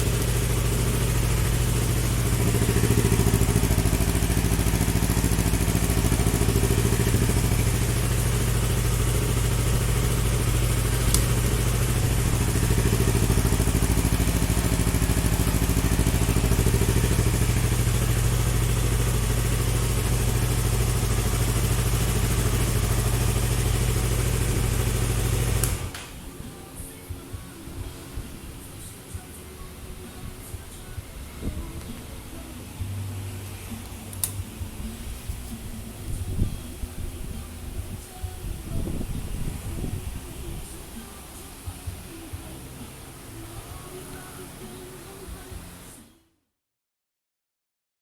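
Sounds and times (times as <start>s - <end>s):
motorcycle engine idling: 0.0s - 45.2s.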